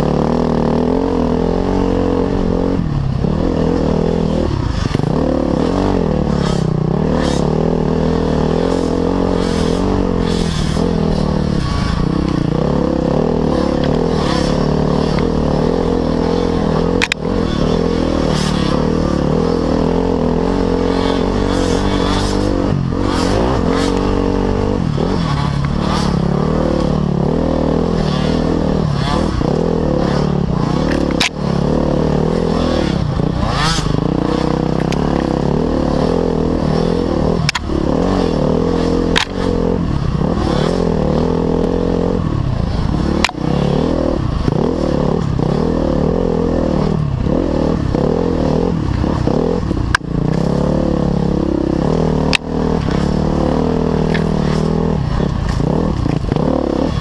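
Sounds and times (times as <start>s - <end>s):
off-road motorcycle engine revving: 0.0s - 57.0s.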